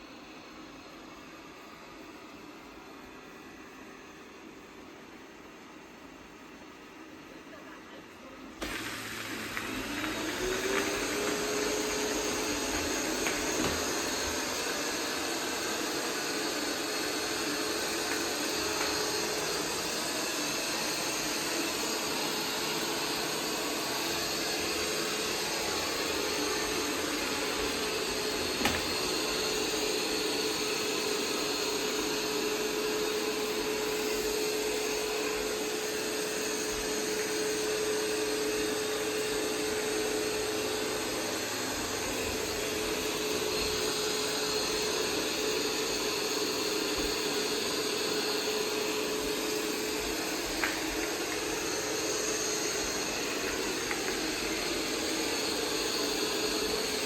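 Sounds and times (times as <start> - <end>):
robot vacuum humming: 8.6 - 57.0.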